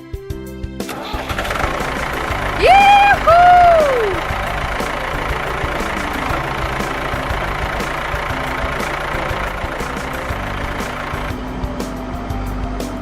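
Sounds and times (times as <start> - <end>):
cartoon tractor engine: 0.8 - 11.6.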